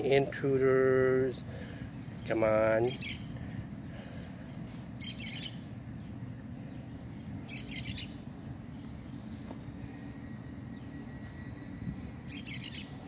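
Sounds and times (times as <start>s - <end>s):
low background noise: 0.0s - 13.0s
small bird chirping: 1.8s - 13.0s.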